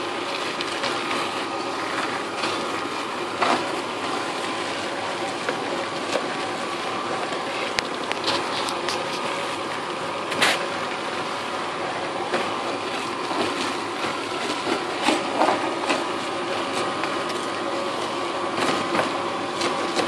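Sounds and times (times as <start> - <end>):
dust collector blower whining: 0.0 - 20.0.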